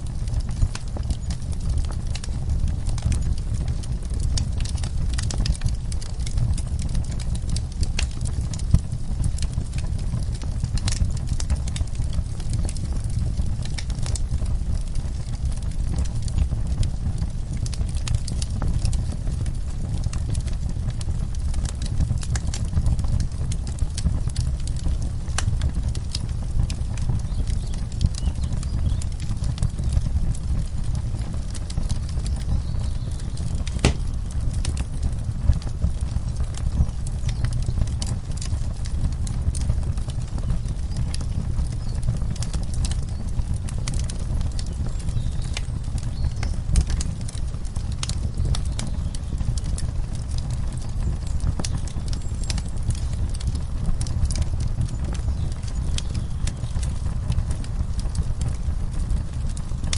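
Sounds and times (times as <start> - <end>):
steady low rumble: 0.0 - 59.9
wood fire crackling: 0.0 - 59.9.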